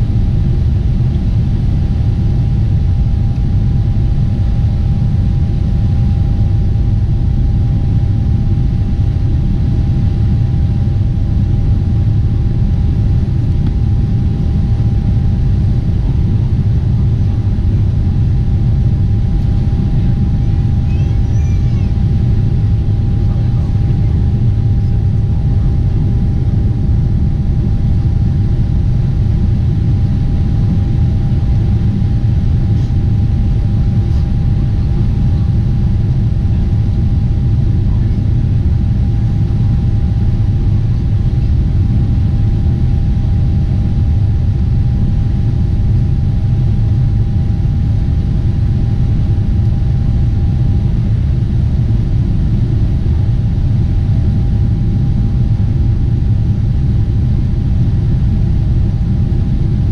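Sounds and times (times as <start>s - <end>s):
airliner cabin rumble: 0.0s - 59.9s
thin steady whine: 0.0s - 59.9s.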